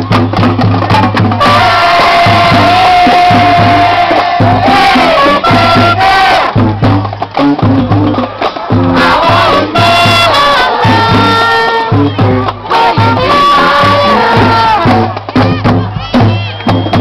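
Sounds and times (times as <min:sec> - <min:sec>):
band playing loudly: 0:00.0 - 0:17.0
crowd voices shouting: 0:00.0 - 0:17.0.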